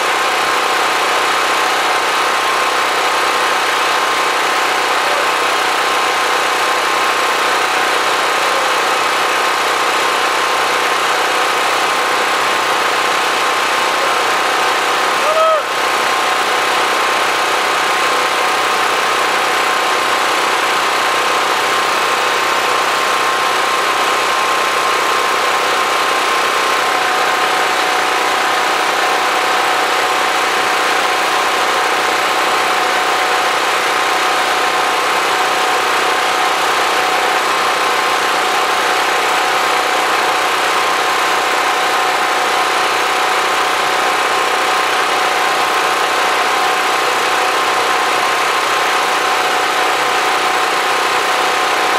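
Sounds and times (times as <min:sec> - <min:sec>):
generator engine drone: 0:00.0 - 0:51.9.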